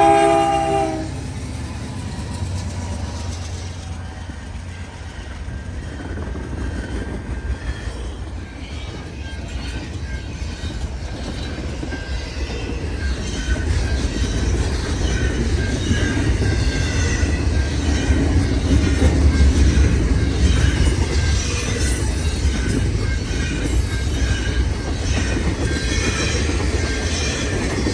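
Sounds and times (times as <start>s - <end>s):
freight train wheels rumbling on rail: 0.0s - 27.9s.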